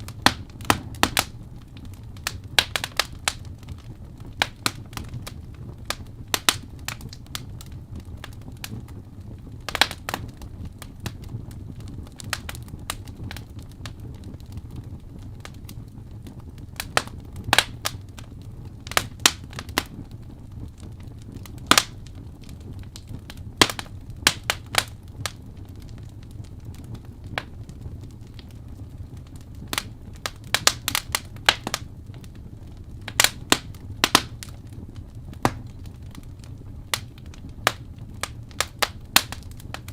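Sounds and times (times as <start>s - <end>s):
fire crackling with pops: 0.0s - 39.9s
low rumble of flames: 0.0s - 39.9s.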